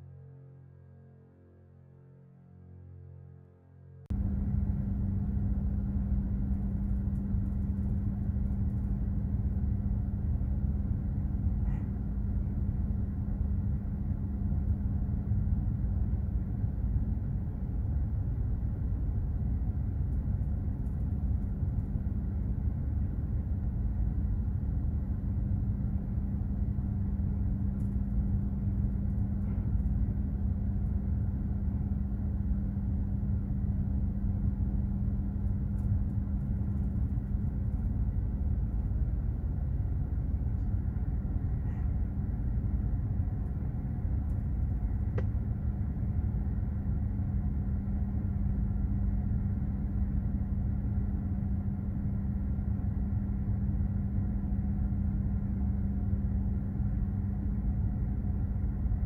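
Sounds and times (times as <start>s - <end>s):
constant hum: 0.0s - 59.0s.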